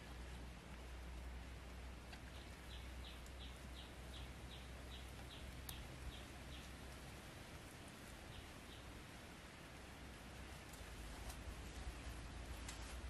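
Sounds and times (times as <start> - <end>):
faint low rumble: 0.0 - 13.0
wood fire crackling: 0.0 - 13.0.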